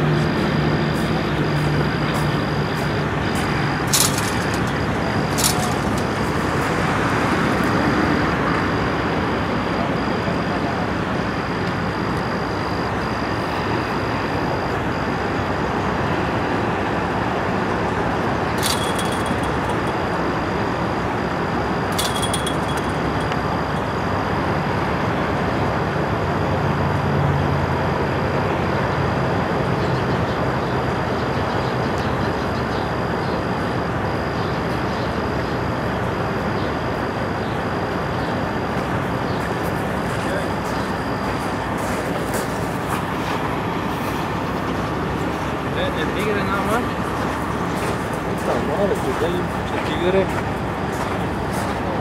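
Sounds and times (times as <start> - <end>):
freeway traffic: 0.0 - 52.0
heavy vehicle engine hum: 0.0 - 52.0.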